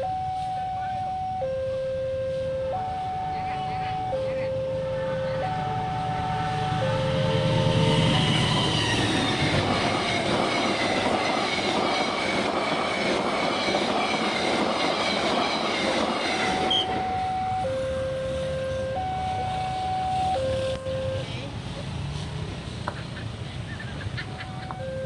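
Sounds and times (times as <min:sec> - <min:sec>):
two-tone crossing warning alarm: 0:00.0 - 0:21.4, 0:24.3 - 0:25.0
train passing at speed: 0:02.3 - 0:25.0.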